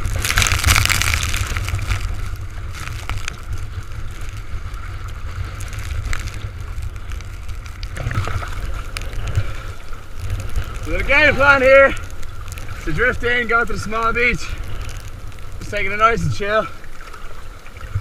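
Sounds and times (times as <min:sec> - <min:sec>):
splashing water: 0:00.0 - 0:18.0.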